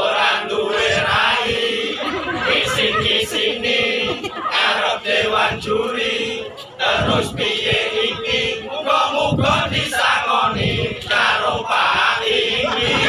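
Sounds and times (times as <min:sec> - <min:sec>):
crowd voices: 0:00.0 - 0:13.0
men chanting in unison: 0:00.0 - 0:13.0.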